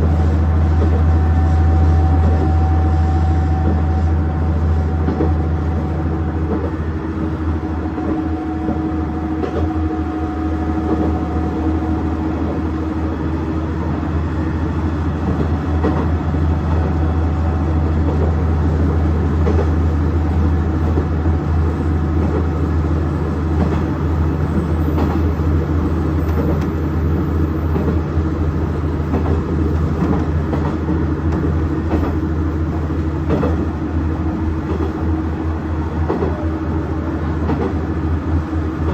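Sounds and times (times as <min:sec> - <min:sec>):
wheel and rail noise: 0:00.0 - 0:38.9.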